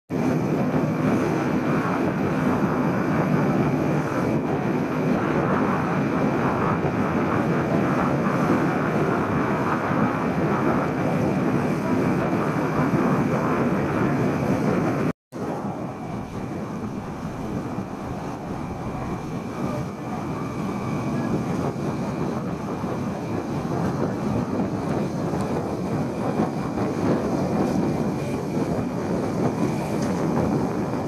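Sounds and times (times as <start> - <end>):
rushing water and wind: 0.1 - 31.0
ferry engines droning: 0.2 - 31.0.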